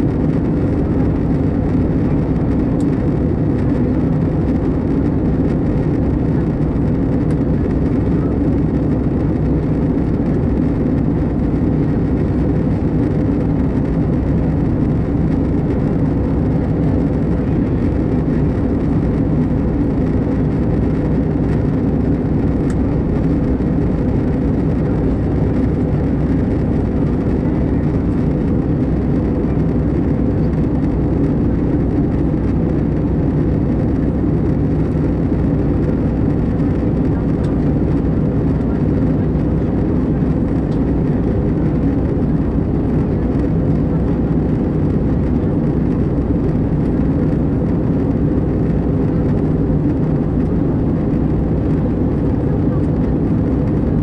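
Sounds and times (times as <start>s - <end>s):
airplane cabin drone: 0.0s - 54.0s.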